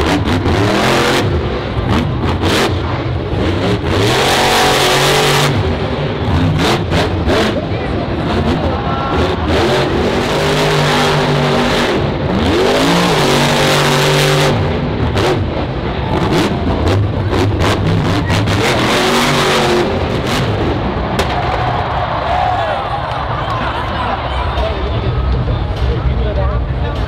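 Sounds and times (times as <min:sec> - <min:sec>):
truck engine revving hard: 0:00.0 - 0:23.2.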